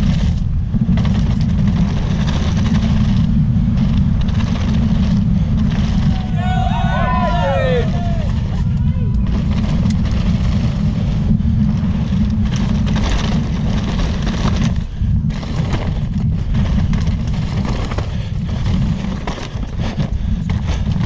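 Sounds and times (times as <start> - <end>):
bike rattle and tyre noise: 0.0 - 21.0
wind buffeting microphone: 0.0 - 21.0.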